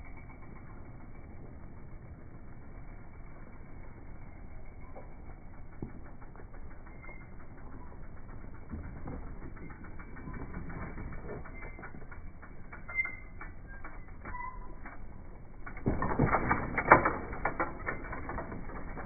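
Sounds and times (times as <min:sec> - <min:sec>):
bicycle freewheel hub ticking: 0:00.0 - 0:19.0.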